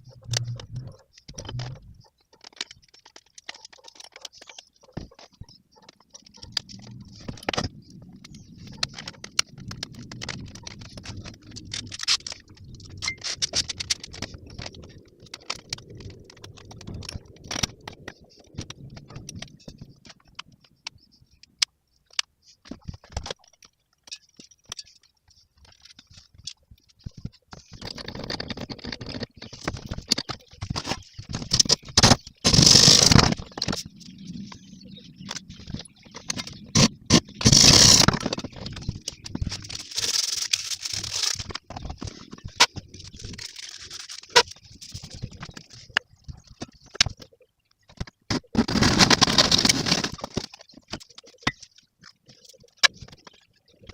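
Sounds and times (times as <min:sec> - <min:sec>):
scraping clicking and rattling: 0:00.0 - 0:53.9.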